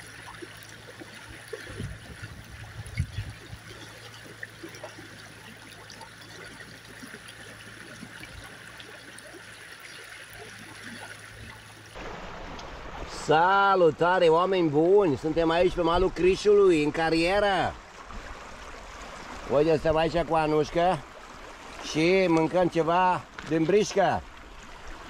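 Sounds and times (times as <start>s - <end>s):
river running over stones: 0.0s - 25.0s.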